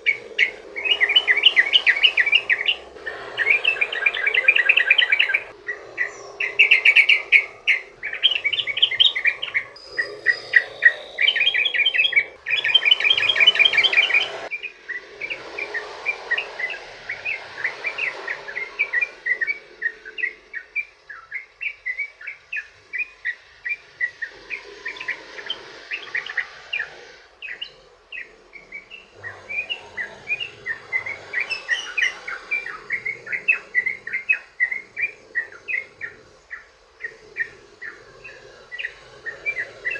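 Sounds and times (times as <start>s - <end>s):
bird singing chirping notes: 0.0s - 39.9s.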